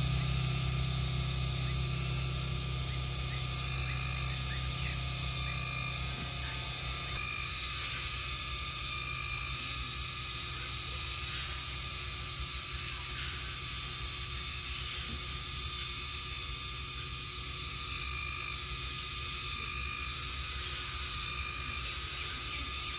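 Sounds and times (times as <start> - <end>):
hissing drone: 0.0 - 22.9.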